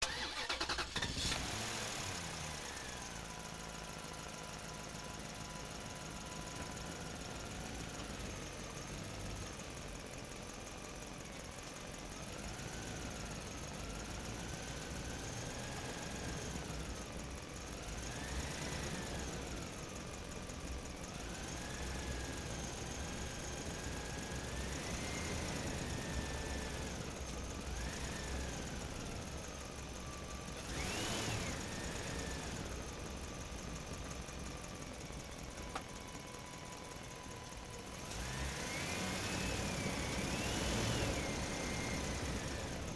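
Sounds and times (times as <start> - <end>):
truck engine rumble and whine: 0.0 - 42.9.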